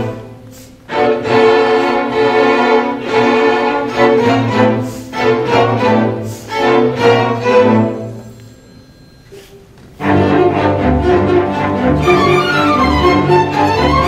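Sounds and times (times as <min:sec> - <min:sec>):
string orchestra playing: 0:00.0 - 0:08.5, 0:10.0 - 0:14.0.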